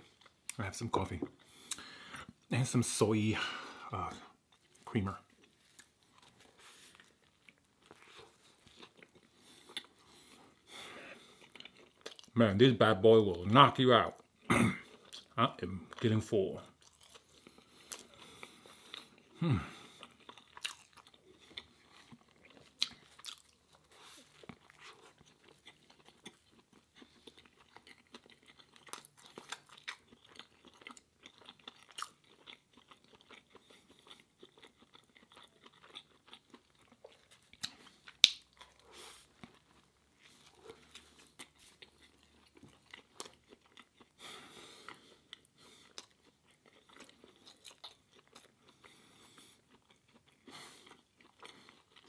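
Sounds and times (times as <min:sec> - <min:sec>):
chewing and biting sandwich: 0:04.5 - 0:12.4, 0:16.7 - 0:52.0.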